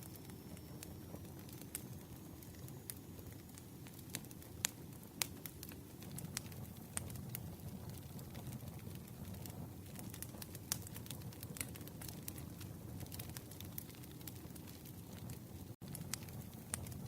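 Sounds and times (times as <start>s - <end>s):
campfire rushing: 0.0s - 17.0s
fire crackling and popping: 0.0s - 17.0s.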